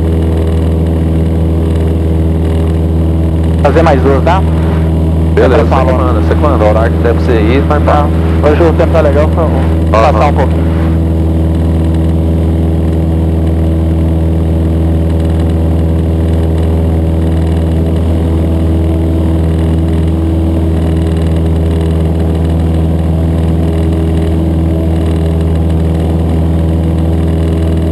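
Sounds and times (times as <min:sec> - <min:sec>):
light aircraft engine droning: 0:00.0 - 0:27.9.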